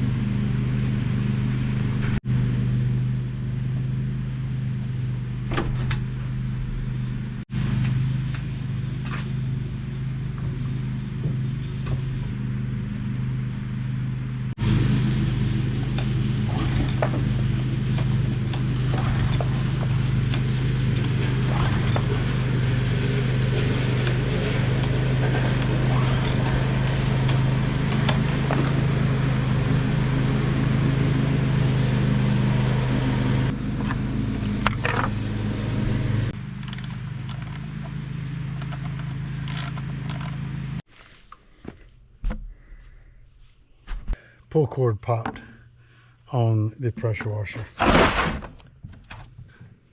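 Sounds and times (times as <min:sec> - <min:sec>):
engine humming: 0:00.0 - 0:46.5.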